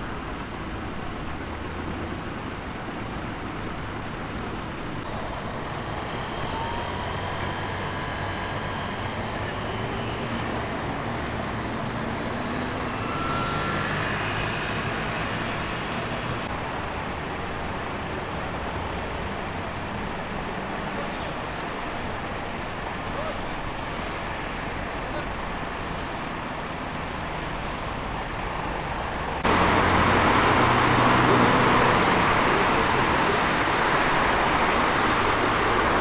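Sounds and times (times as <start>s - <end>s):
paving machinery engines humming: 0.0s - 36.0s.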